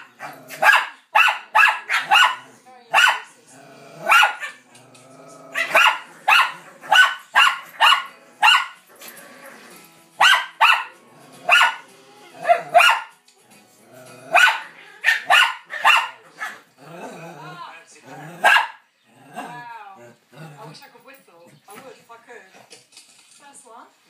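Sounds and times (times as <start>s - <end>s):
dogs barking in play: 0.0s - 4.8s, 5.4s - 13.2s, 14.0s - 20.8s.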